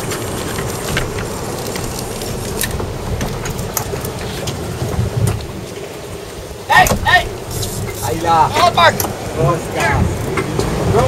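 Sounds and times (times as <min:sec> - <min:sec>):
boat engine rumble: 0:00.0 - 0:11.0
sea noise: 0:00.0 - 0:11.0
wind: 0:00.0 - 0:11.0.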